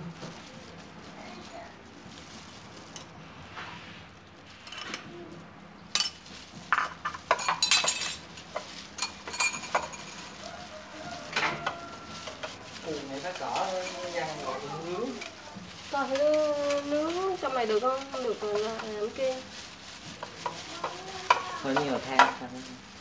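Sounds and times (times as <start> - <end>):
plastic gloves crinkling: 0.0 - 23.0.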